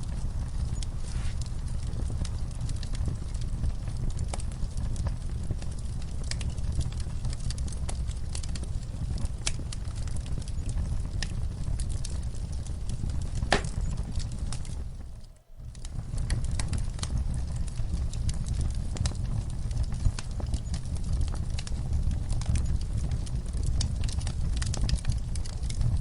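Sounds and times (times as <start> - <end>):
low fire rumble: 0.0 - 26.0
wood fire crackling: 0.0 - 26.0.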